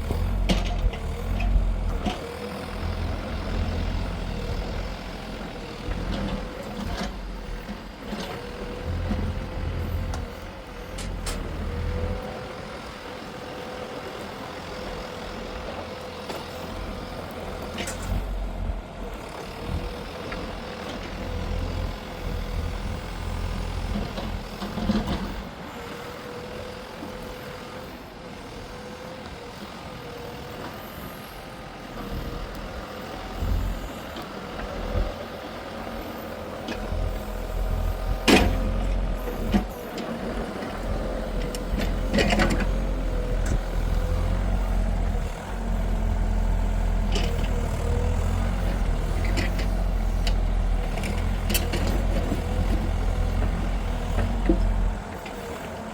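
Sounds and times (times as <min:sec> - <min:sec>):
engine whine: 0:00.0 - 0:55.9
excavator engine rumble: 0:00.0 - 0:55.9.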